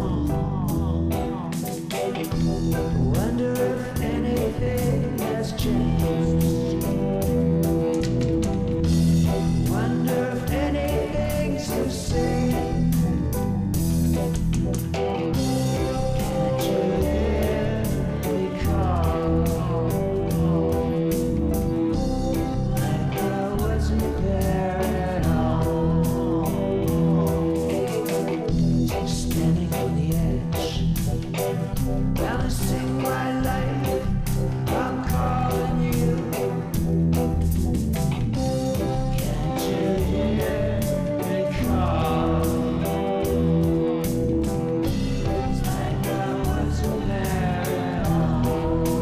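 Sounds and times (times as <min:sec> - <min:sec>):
band music with chords and bass: 0:00.0 - 0:49.0
steady drum beat: 0:00.0 - 0:49.0.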